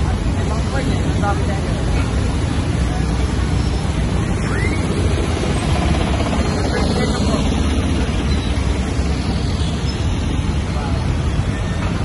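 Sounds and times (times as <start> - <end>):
busy street traffic rumble: 0.0 - 12.0.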